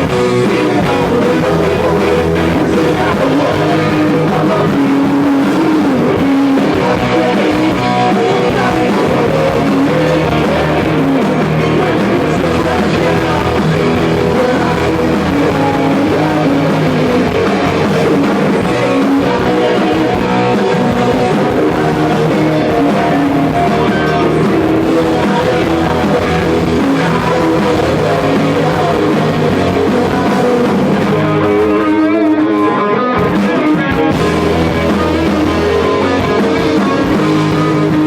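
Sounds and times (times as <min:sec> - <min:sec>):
electric guitar: 0:00.0 - 0:38.0
live rock band playing: 0:00.0 - 0:38.0.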